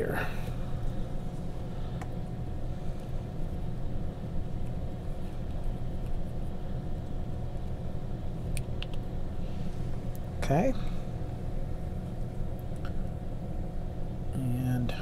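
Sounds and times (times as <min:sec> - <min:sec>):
low background hum and rumble: 0:00.0 - 0:15.0.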